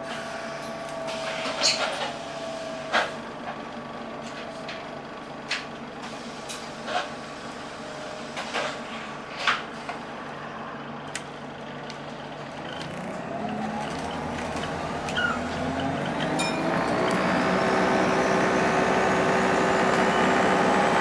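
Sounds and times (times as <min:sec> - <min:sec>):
bus cabin low drone: 0:00.0 - 0:21.0
rising bus whine: 0:00.0 - 0:21.0.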